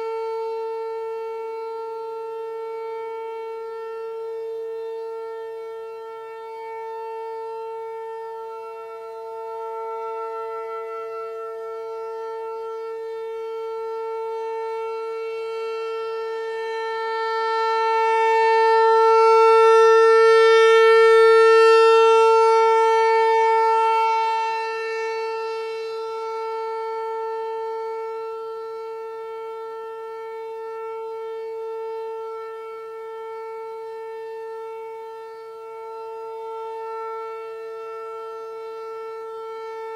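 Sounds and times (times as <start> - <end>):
warning siren steady wail: 0.0 - 39.9.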